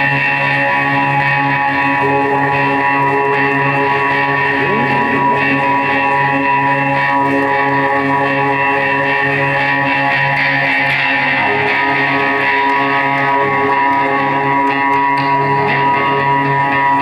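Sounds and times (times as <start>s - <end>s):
live band with sustained guitar drone: 0.0s - 17.0s.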